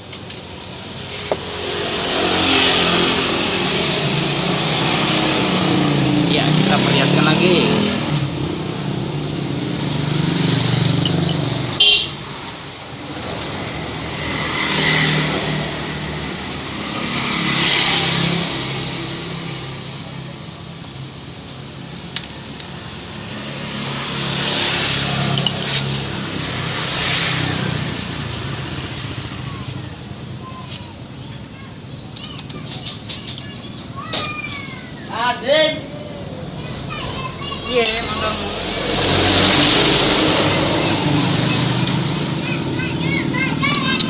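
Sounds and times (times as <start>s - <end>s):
motor vehicles passing: 0.0s - 44.0s.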